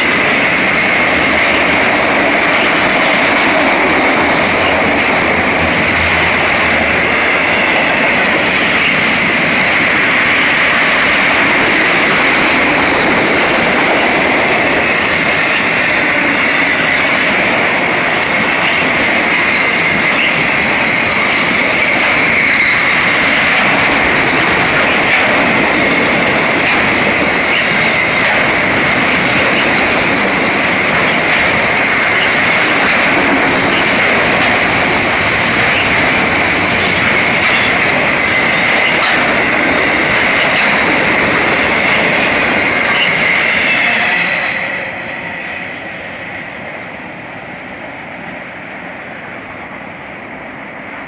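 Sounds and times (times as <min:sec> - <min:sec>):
train wheels on rail: 0:00.0 - 0:51.0.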